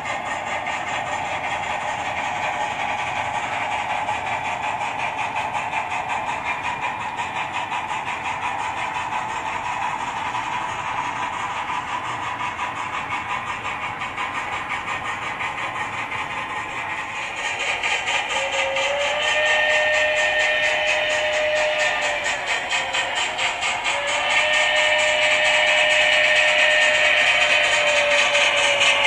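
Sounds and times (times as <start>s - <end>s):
model train wheels rolling: 0.0s - 29.0s
pulsing steam locomotive sound: 0.0s - 29.0s.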